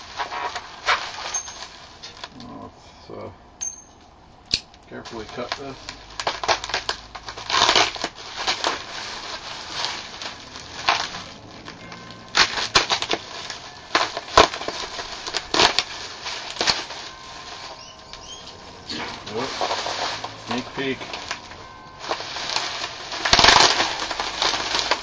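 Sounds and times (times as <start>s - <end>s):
bubble wrap crinkling: 0.0s - 2.4s, 4.9s - 25.0s.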